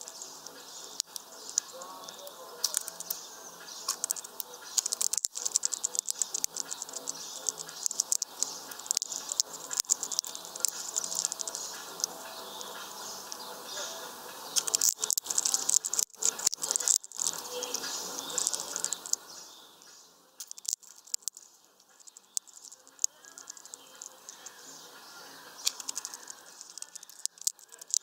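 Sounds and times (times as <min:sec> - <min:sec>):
bird cracking seeds: 0:00.0 - 0:13.8, 0:14.4 - 0:19.4, 0:20.4 - 0:24.8, 0:25.4 - 0:28.0.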